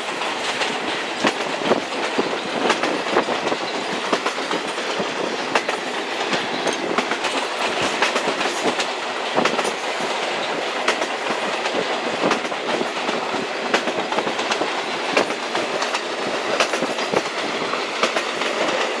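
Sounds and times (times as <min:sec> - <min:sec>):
train rushing noise: 0:00.0 - 0:19.0
wheels clacking over rail joints: 0:00.0 - 0:19.0.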